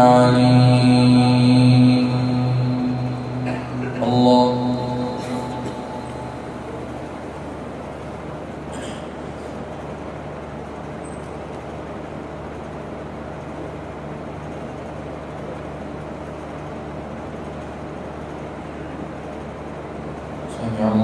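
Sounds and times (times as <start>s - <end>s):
room noise hum and hiss: 0.0s - 21.0s.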